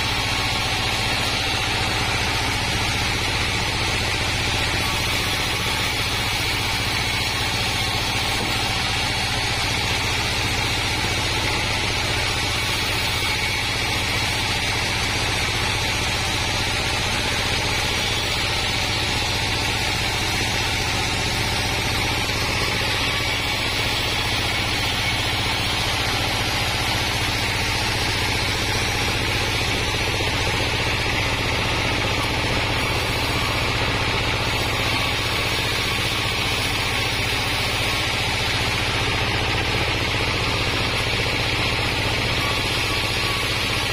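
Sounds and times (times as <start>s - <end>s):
sawmill engine and saw running: 0.0s - 43.9s.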